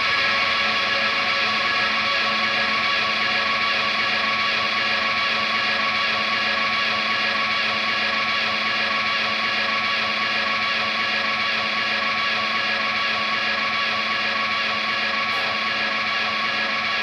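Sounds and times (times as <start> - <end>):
electric guitar noise drone: 0.0 - 5.6, 8.2 - 17.0.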